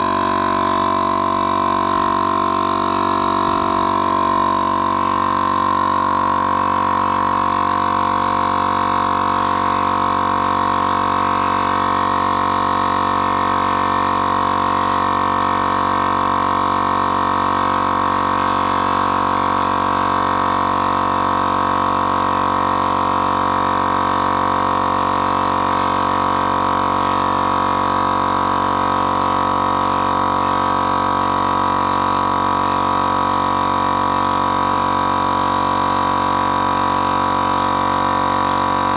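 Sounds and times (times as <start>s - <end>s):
electric air compressor humming: 0.0s - 38.9s.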